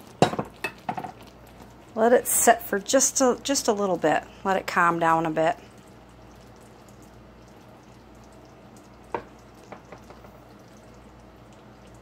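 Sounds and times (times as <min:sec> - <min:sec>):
mixture bubbling in a saucepan: 0:00.0 - 0:12.0.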